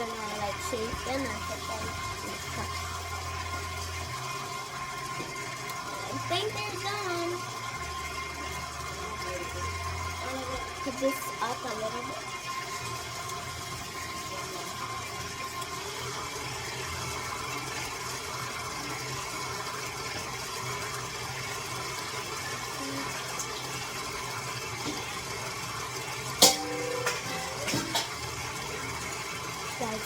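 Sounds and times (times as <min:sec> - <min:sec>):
electric mixer running: 0:00.0 - 0:30.0.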